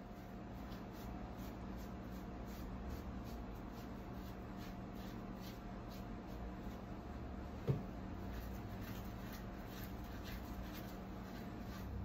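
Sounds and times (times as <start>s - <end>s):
paintbrush swishing on wood: 0.0s - 7.0s, 7.7s - 12.0s
steady low hum: 0.0s - 12.0s.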